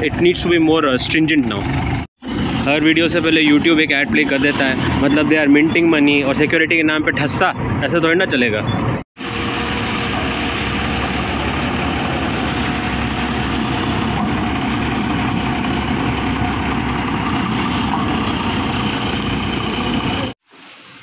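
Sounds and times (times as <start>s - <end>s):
diesel truck engine idling: 0.0s - 6.3s, 9.2s - 20.4s.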